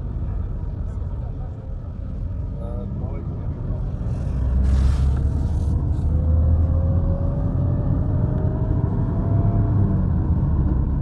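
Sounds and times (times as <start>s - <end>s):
car rumbling on road: 0.0s - 11.0s.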